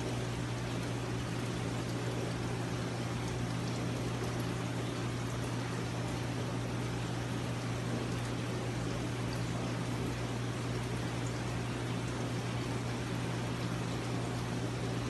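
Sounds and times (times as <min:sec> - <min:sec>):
aquarium pump humming: 0:00.0 - 0:15.0
trickling water: 0:00.0 - 0:15.0.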